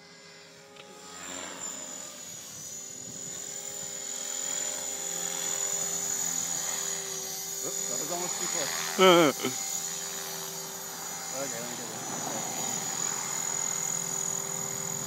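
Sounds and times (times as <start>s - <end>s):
rc helicopter whine: 0.0s - 15.0s.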